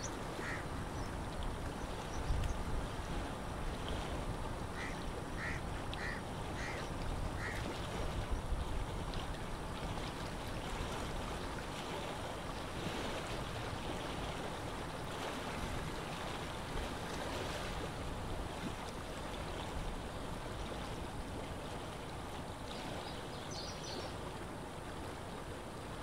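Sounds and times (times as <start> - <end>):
water lapping: 0.0 - 26.0
wind: 0.0 - 26.0.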